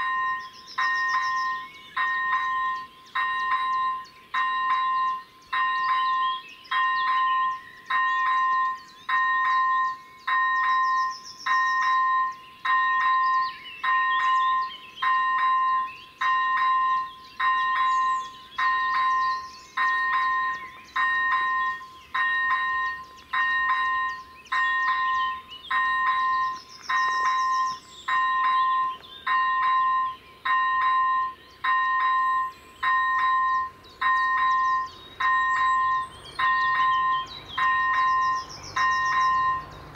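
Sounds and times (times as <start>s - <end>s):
level crossing warning bell ringing: 0.0s - 39.9s.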